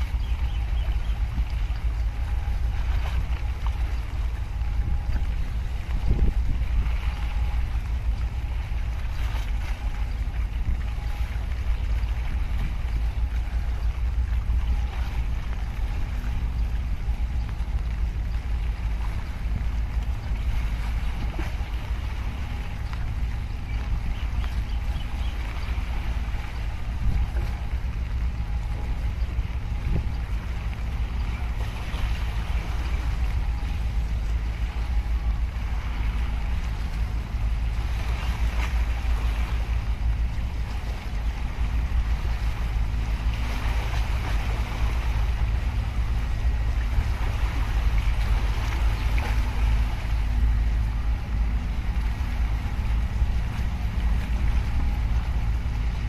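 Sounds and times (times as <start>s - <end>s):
ship engine drone: 0.0s - 56.0s
water splashing: 0.0s - 56.0s
wind on microphone: 0.0s - 56.0s.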